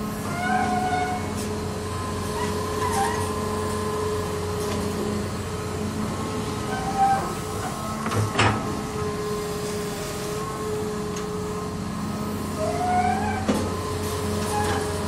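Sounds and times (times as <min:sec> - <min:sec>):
excavator diesel engine running: 0:00.0 - 0:15.0
hydraulic whines: 0:00.0 - 0:15.0.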